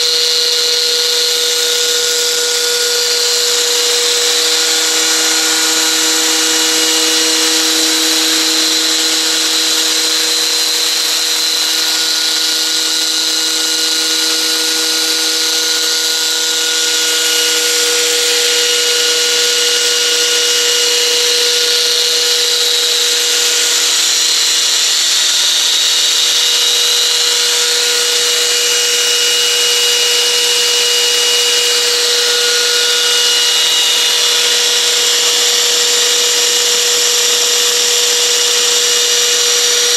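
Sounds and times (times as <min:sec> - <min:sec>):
model helicopter drivetrain whine: 0:00.0 - 0:39.9.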